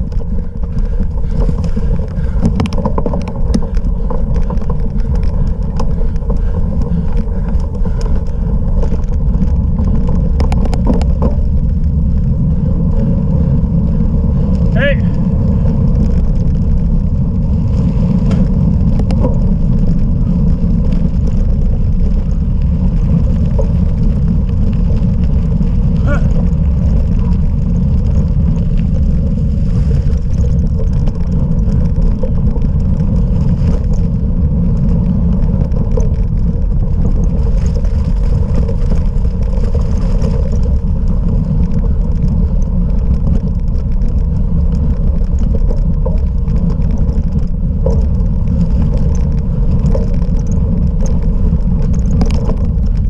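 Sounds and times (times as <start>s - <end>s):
bike riding noise: 0.0s - 53.0s
wind rumble on microphone: 0.0s - 53.0s.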